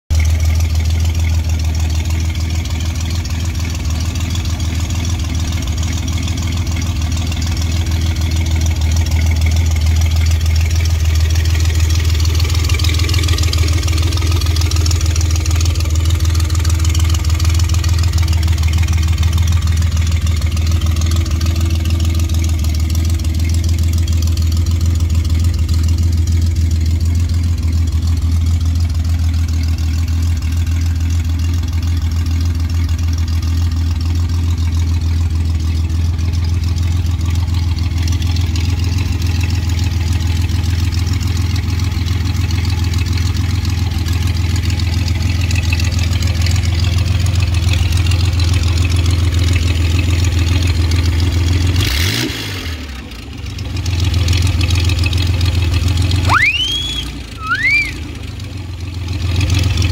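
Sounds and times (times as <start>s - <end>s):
engine idling: 0.1s - 59.9s.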